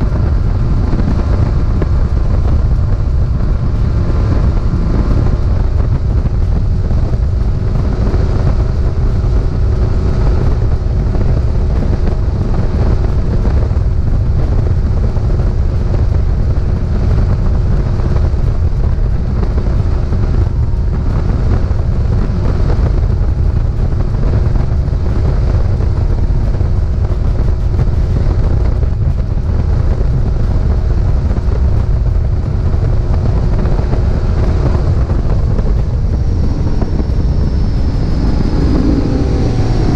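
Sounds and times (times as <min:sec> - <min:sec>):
outboard motor droning: 0:00.0 - 0:39.9
wind and water rumble: 0:00.0 - 0:39.9.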